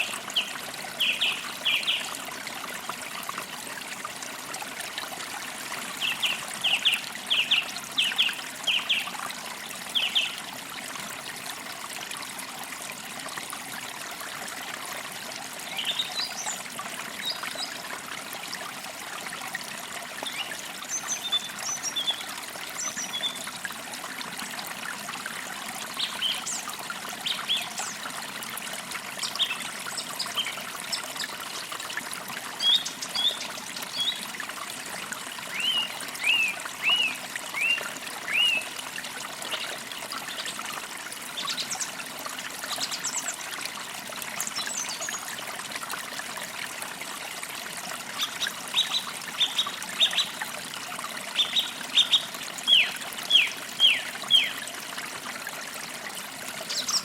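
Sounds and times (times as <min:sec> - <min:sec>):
creek trickling: 0:00.0 - 0:57.0.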